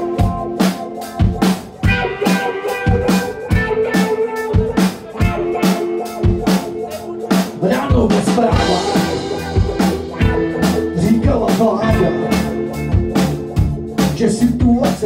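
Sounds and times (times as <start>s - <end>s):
distorted electric guitars: 0.0s - 15.0s
drum kit beat: 0.0s - 15.0s.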